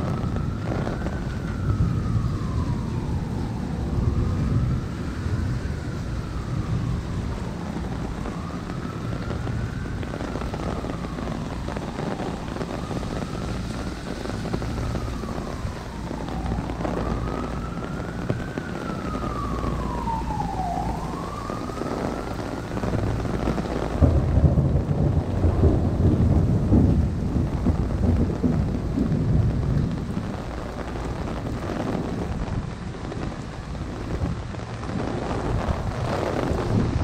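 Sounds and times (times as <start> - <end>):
heavy rain on street and umbrella: 0.0 - 37.0
low thunder rumble: 0.0 - 37.0
siren wailing: 0.0 - 37.0.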